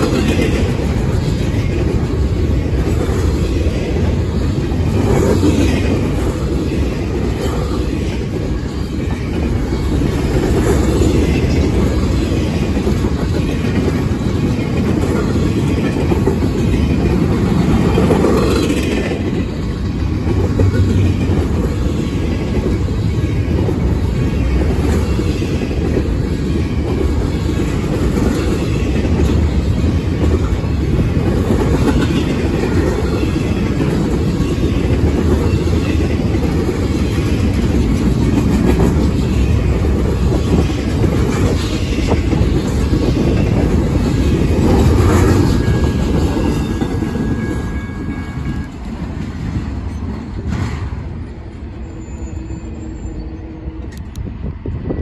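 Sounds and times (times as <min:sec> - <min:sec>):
wheel clickety-clack: 0:00.0 - 0:51.6
freight train rolling past: 0:00.0 - 0:55.0.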